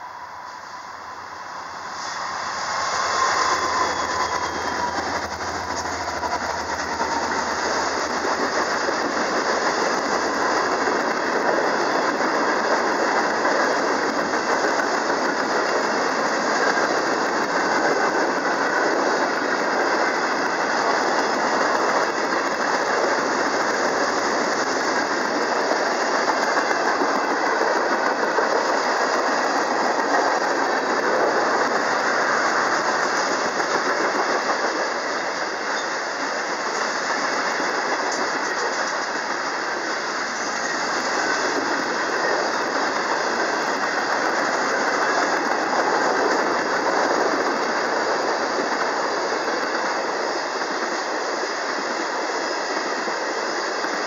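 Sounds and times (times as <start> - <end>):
steel wheels rolling on rails: 1.8 - 54.0.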